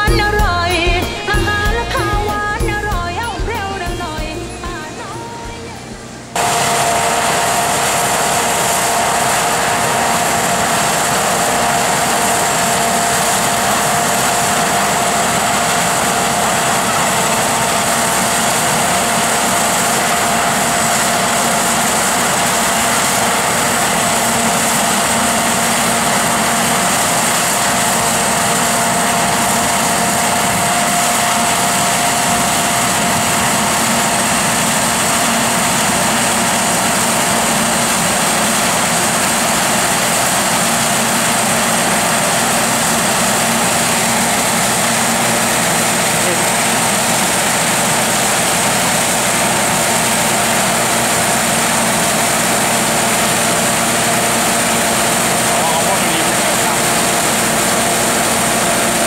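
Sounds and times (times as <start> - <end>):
combine harvester running: 0.0 - 59.0
steady machine whine: 0.0 - 59.0.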